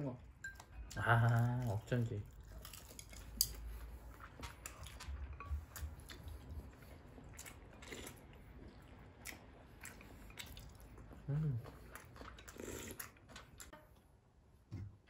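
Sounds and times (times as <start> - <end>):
chewing: 0.5 - 13.8.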